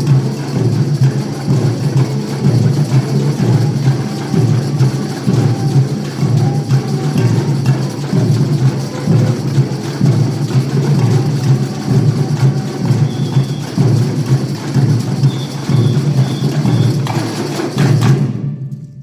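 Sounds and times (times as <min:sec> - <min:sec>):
drums and percussion beat: 0:00.0 - 0:19.0.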